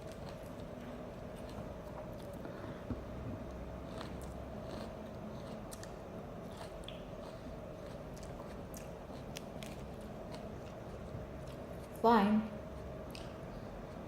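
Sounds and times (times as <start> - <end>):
person chewing salad greens: 0.0 - 12.0, 12.6 - 14.0
faint steady hum: 0.0 - 14.0.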